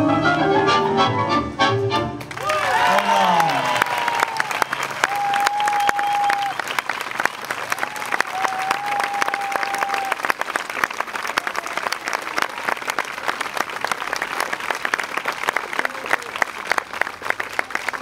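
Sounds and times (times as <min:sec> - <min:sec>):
audience applauding: 0:02.2 - 0:18.0.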